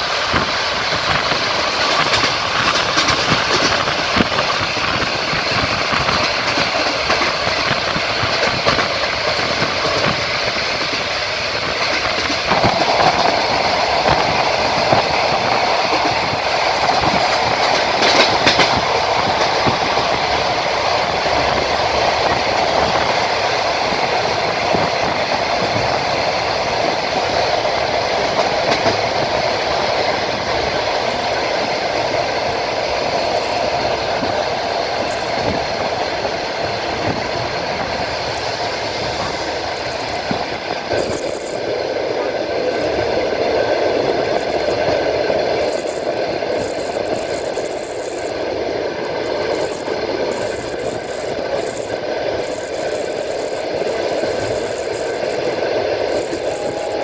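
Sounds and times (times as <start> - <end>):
train rumbling: 0.0 - 57.0
train wheels clicking on rails: 0.0 - 57.0.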